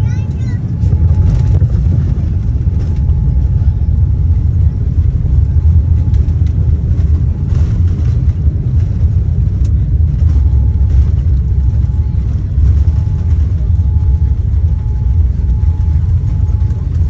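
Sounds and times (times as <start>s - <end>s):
vehicle interior rumble: 0.0s - 17.0s.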